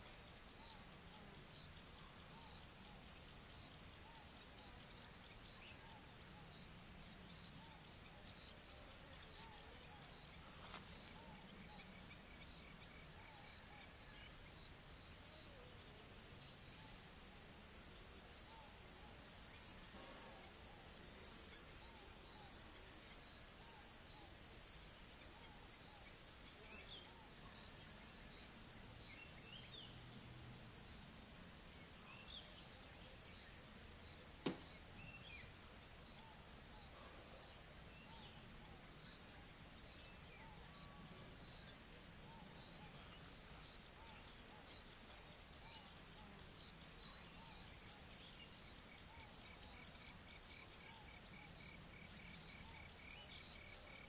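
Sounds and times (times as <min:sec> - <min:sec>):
crickets chirping: 0:00.0 - 0:54.0
faint low insect calls: 0:00.0 - 0:54.0.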